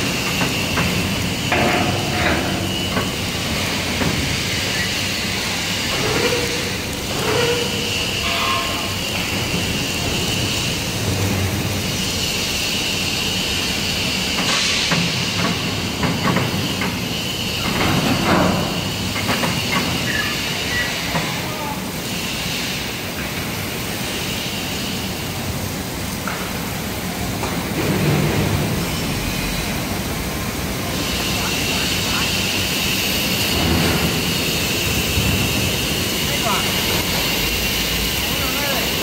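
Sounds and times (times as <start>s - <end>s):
machine drone: 0.0s - 21.2s, 27.7s - 39.0s
hiss: 0.0s - 39.0s.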